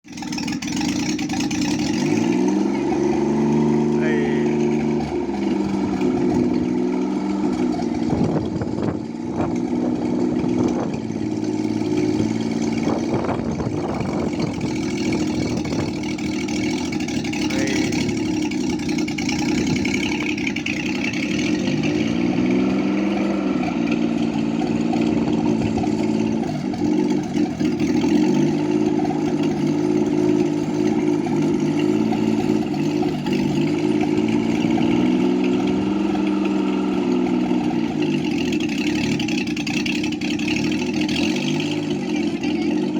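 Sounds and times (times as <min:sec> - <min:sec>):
helicopter engine running: 0:00.1 - 0:42.9.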